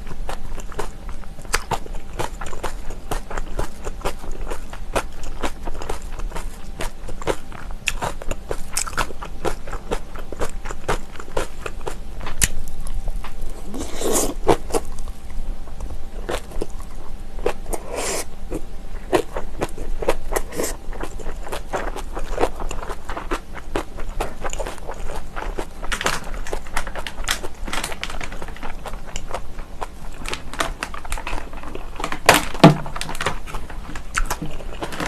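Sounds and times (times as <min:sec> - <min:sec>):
crisp wet chewing crunches: 0:00.0 - 0:35.0.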